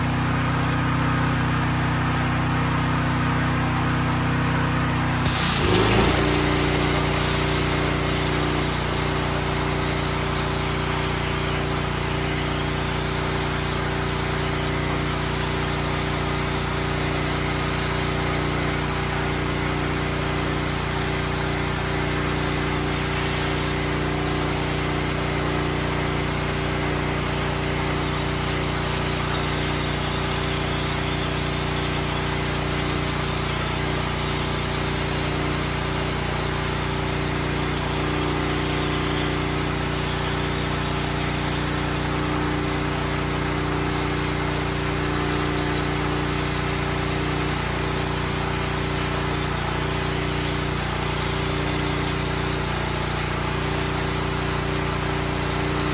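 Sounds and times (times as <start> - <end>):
plasma cutter torch hissing: 5.1 - 55.9.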